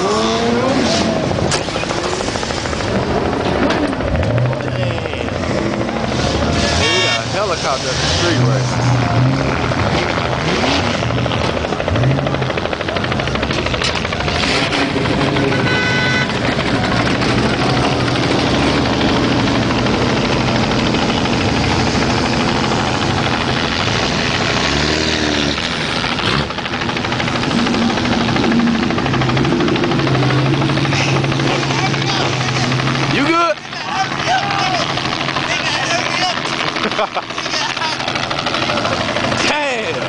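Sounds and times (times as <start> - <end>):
car engine revving: 0.0 - 40.0
helicopter rotor beating: 0.0 - 40.0.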